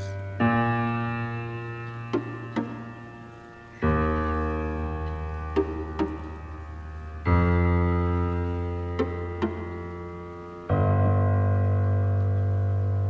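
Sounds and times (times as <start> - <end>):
deep sustained keyboard chord: 0.0 - 13.0.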